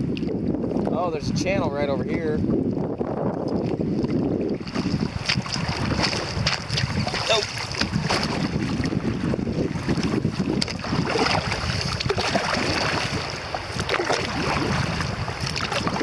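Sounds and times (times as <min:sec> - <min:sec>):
river water splashing and gurgling: 0:00.0 - 0:16.0
wind buffeting microphone: 0:00.0 - 0:16.0.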